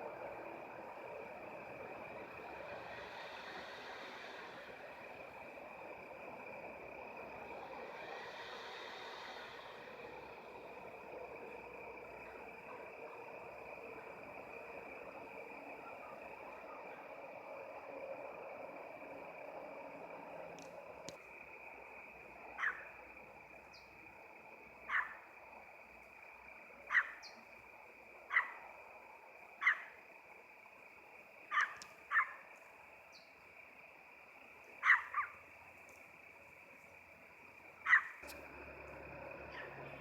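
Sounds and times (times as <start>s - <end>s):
high-pitched hiss: 0.0s - 40.0s.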